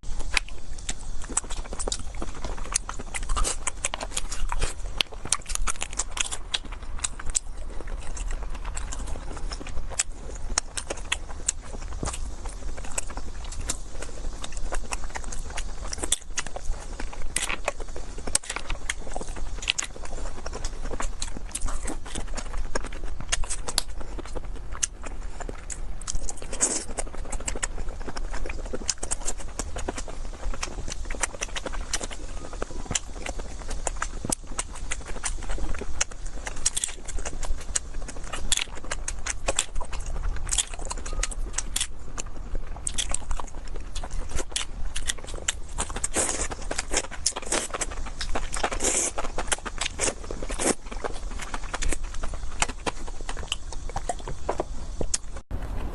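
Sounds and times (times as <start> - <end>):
chewing and mouth sounds: 0.0 - 55.4
steady low hum: 0.0 - 55.9.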